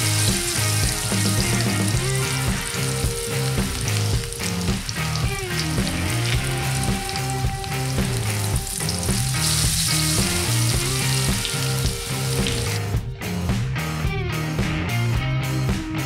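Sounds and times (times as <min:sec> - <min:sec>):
chicken frying in oil: 0:00.0 - 0:12.9
background music: 0:00.0 - 0:16.0.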